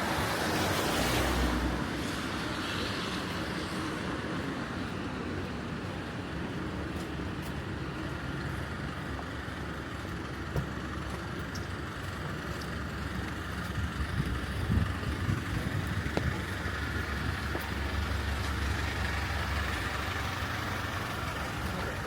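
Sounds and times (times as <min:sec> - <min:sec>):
traffic on wet pavement: 0:00.0 - 0:22.0.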